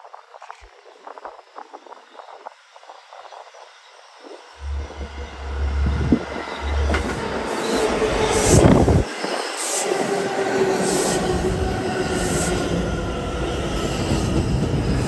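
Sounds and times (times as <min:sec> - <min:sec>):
train whine: 0:01.4 - 0:15.0.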